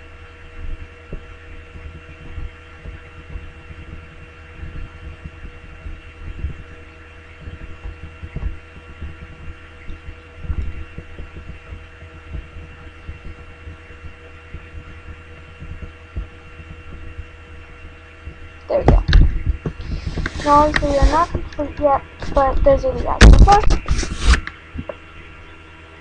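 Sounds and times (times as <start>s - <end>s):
electrical hum with whining tones: 0.0s - 26.0s
soft low thumps: 0.6s - 23.9s.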